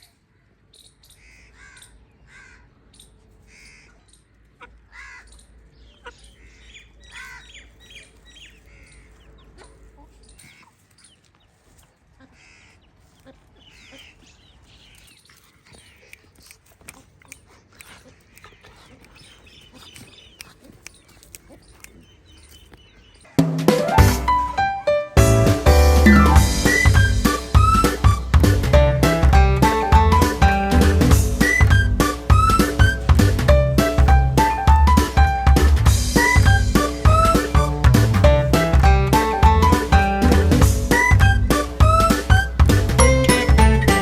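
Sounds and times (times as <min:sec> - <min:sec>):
birds making harsh calls: 0:00.0 - 0:23.6, 0:26.0 - 0:28.6, 0:29.6 - 0:37.8, 0:39.1 - 0:44.0.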